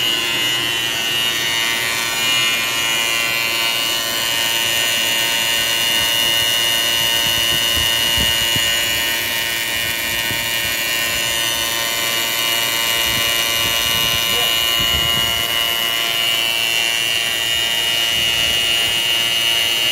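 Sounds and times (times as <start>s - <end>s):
trimming wheel whining against brush: 0.0s - 19.9s.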